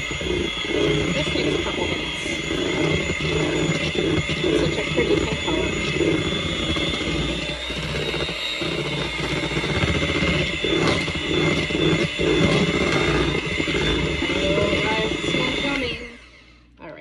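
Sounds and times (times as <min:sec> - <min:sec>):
electric hand mixer running: 0:00.0 - 0:16.7.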